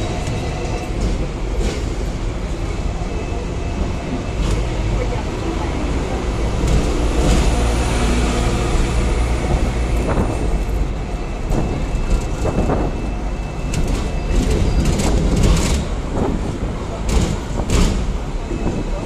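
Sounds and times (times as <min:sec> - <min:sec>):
tram wheels rumbling on tracks: 0:00.0 - 0:19.0.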